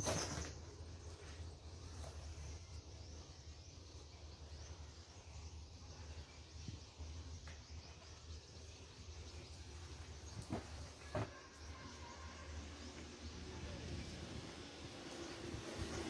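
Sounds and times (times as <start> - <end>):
faint low hum: 0.1 - 16.0.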